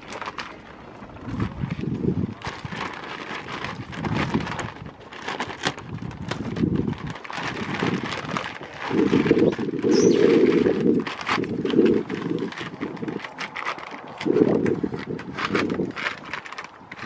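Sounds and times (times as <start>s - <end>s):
plastic sheet crackling: 0.0s - 17.0s.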